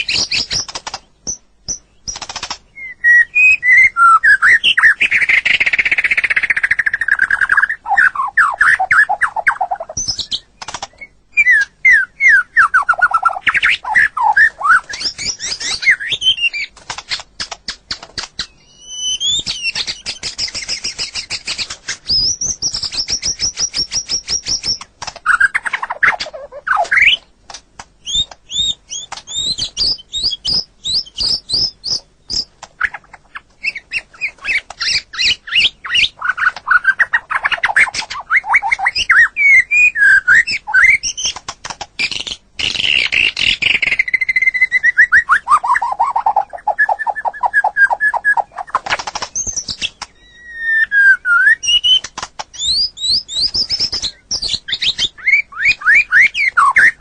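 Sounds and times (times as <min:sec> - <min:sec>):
songbird singing varied song: 0:00.0 - 0:57.0.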